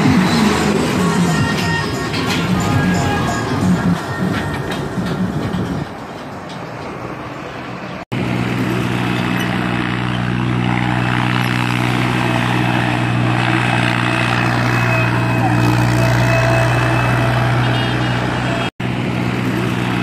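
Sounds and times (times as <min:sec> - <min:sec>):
diesel tractor engine droning: 0:00.0 - 0:20.0
road noise: 0:00.0 - 0:20.0.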